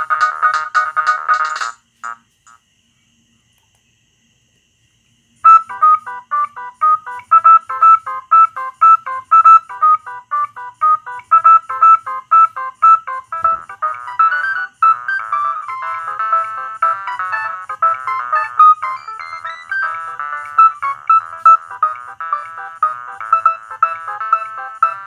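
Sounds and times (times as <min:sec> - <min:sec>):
mobile phone ringtone: 0:00.0 - 0:02.2, 0:05.5 - 0:25.0.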